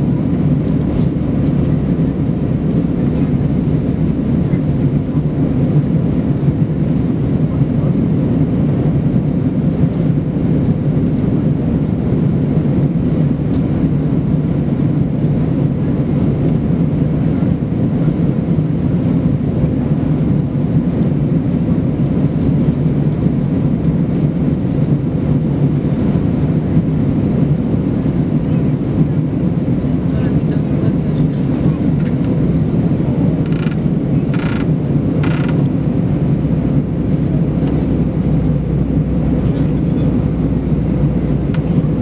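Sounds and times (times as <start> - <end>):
airplane cabin engine drone: 0.0 - 42.0.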